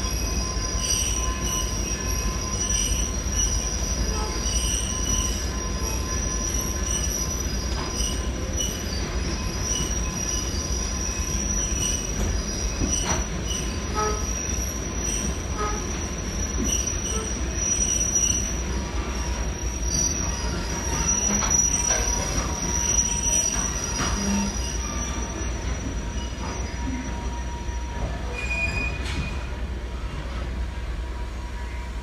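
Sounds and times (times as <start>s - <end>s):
train rumble in tunnel: 0.0s - 32.0s
wheels squealing on rails: 0.0s - 32.0s.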